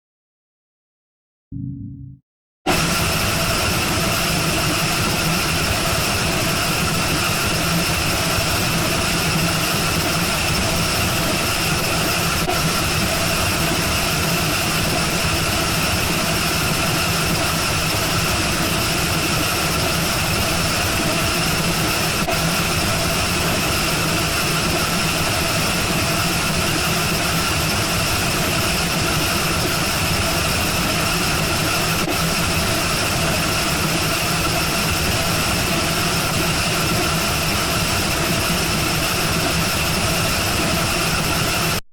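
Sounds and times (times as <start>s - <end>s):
loud mechanical drone: 2.7s - 41.8s.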